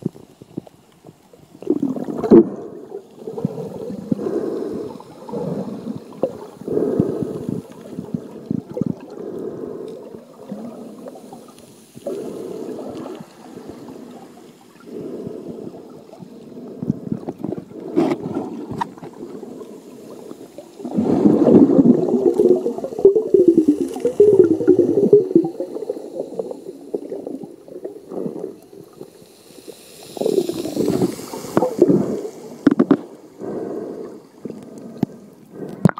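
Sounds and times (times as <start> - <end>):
muffled underwater sloshing: 0.0 - 35.9
bubbling gurgle: 1.5 - 9.2, 10.1 - 33.4.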